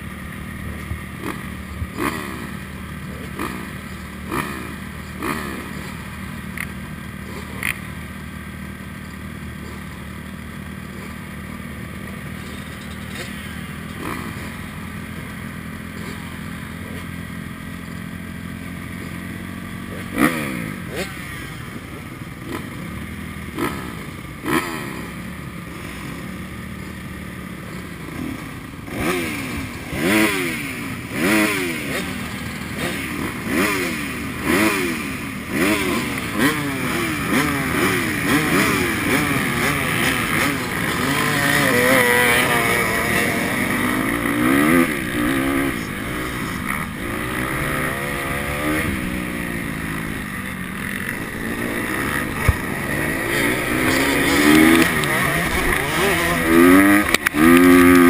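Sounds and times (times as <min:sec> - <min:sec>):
motorcycle engines revving: 0:00.0 - 0:58.0
motorcycle engines running hard: 0:00.0 - 0:58.0.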